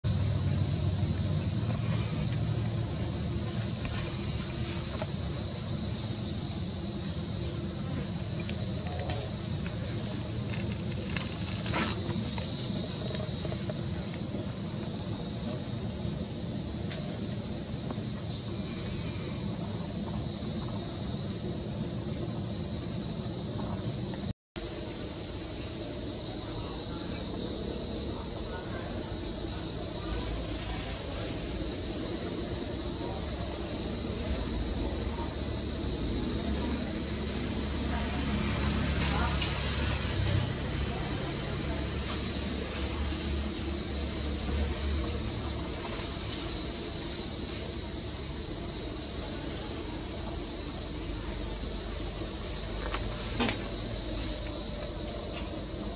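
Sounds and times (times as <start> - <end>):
high-pitched insect chorus drone: 0.0 - 55.9.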